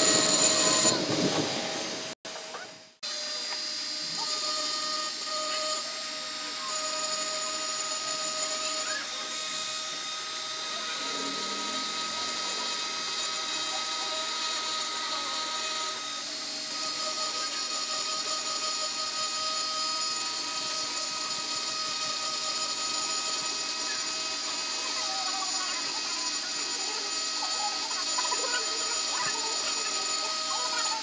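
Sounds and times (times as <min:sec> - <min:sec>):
rotary engraver grinding glass: 0:00.0 - 0:31.0.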